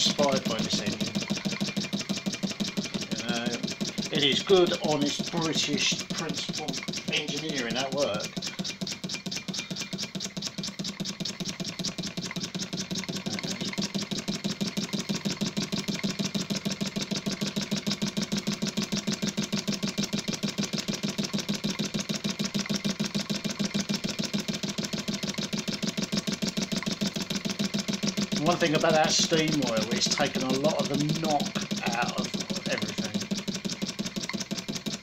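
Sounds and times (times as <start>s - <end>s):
steam engine exhaust beating: 0.0s - 35.0s.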